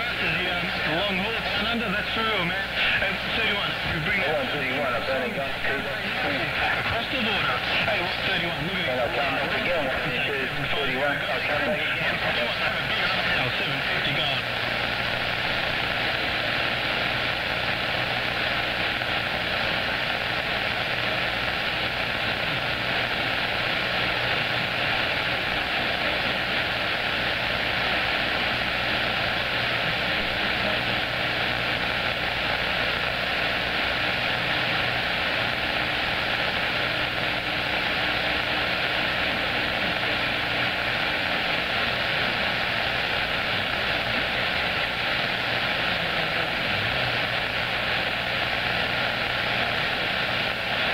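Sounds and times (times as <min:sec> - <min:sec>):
radio static hiss: 0:00.0 - 0:50.9.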